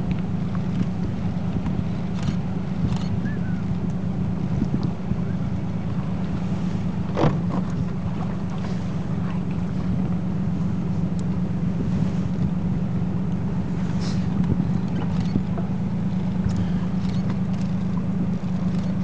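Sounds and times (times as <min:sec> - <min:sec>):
boat engine rumbling: 0:00.0 - 0:19.0
wind on microphone: 0:00.0 - 0:19.0.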